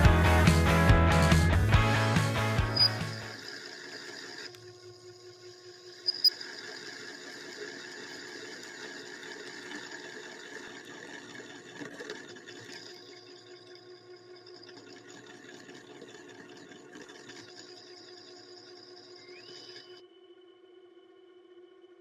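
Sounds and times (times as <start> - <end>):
lathe machine whine: 2.6 - 21.2.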